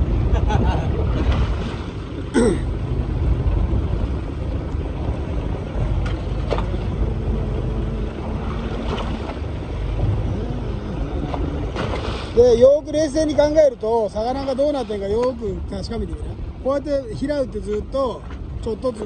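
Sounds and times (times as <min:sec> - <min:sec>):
boat engine rumble: 0:00.0 - 0:19.0
sea noise: 0:00.0 - 0:19.0
wind: 0:00.0 - 0:19.0.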